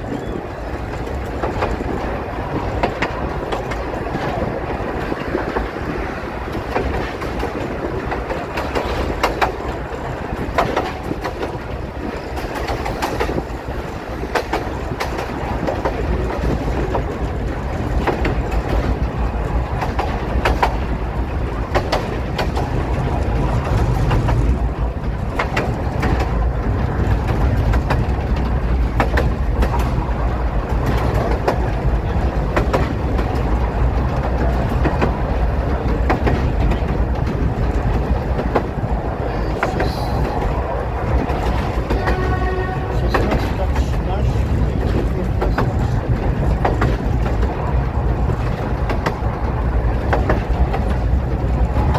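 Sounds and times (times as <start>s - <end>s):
train rumble: 0.0s - 51.9s
wheels clicking over rail joints: 0.0s - 51.9s.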